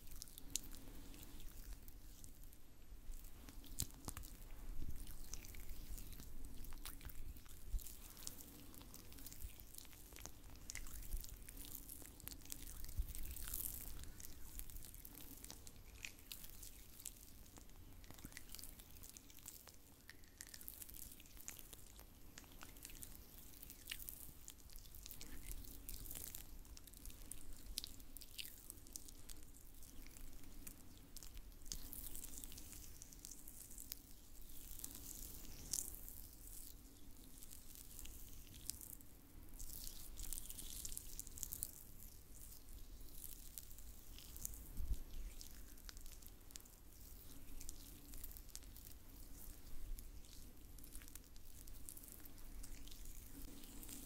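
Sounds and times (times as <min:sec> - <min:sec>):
oiled hands rubbing and squishing: 0:00.0 - 0:54.0.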